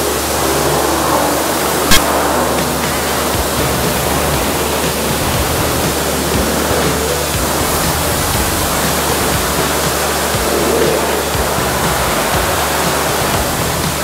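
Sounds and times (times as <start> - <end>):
pressure washer spraying car: 0.0 - 14.0.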